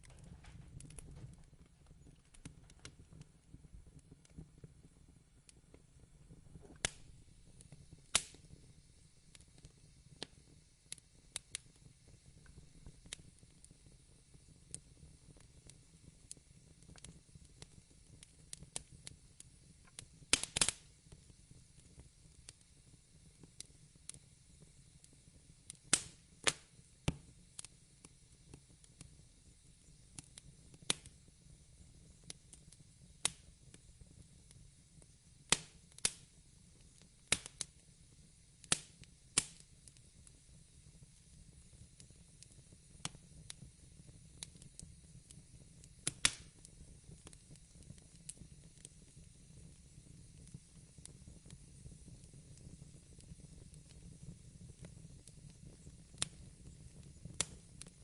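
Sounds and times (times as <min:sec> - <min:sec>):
fire crackling and popping: 0:00.0 - 0:58.0
low fire rumble: 0:00.0 - 0:58.0.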